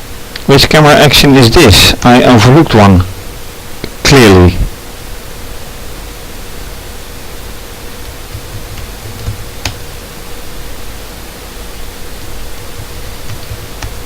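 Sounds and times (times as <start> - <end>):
faint steady hum: 0.0 - 14.0
room noise hiss: 0.0 - 14.0.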